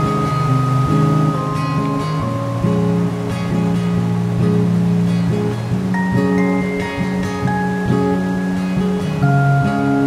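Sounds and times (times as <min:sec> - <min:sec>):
acoustic guitar strumming: 0:00.0 - 0:10.0
steady hiss: 0:00.0 - 0:10.0.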